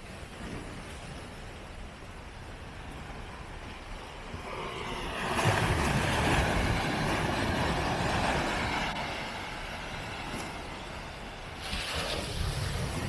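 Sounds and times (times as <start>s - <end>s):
wind rumbling on microphone: 0.0s - 13.0s
surf washing over rocky shore: 2.2s - 13.0s.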